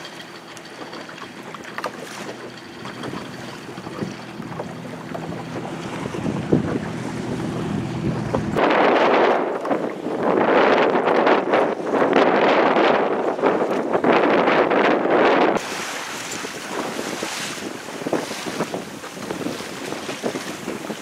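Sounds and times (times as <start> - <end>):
boat engine humming: 0.0 - 21.0
water splashing against hull: 0.0 - 21.0
wind buffeting microphone: 0.8 - 21.0.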